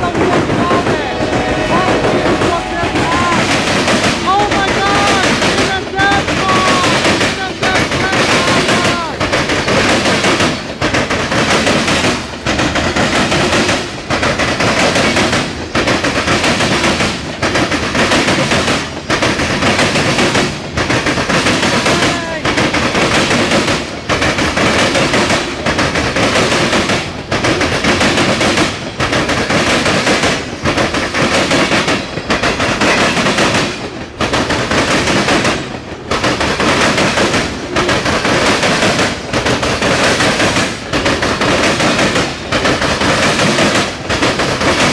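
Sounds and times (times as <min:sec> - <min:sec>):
train wheels clattering on rails: 0:00.0 - 0:44.9.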